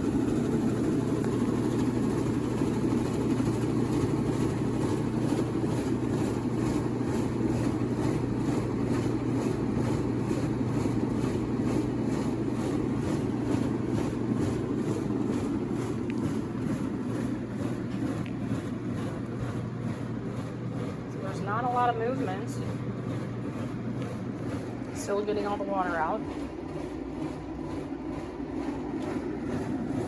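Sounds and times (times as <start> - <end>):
washing machine spin cycle hum: 0.0 - 30.0.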